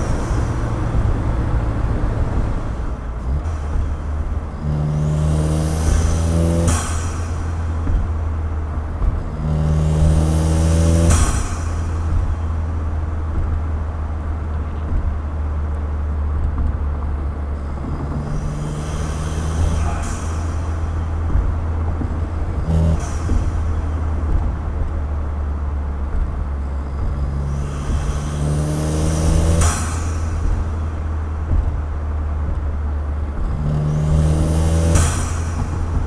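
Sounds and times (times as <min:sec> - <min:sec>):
car engine drone: 0:00.0 - 0:36.0
road noise: 0:00.0 - 0:36.0.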